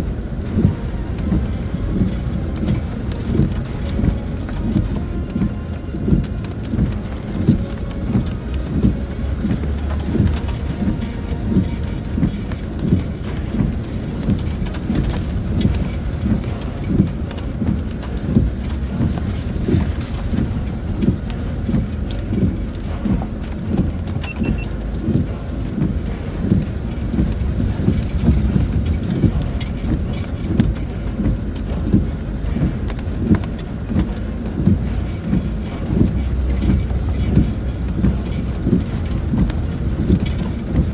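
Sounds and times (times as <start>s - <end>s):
rain on car body: 0.0s - 40.9s
vehicle cabin rumble: 0.0s - 40.9s
vehicle jolting thuds: 0.0s - 40.9s.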